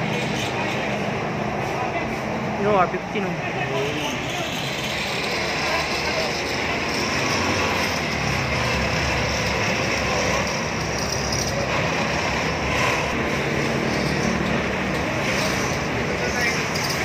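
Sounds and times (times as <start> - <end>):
vehicle engine and traffic rumble: 0.0 - 17.0.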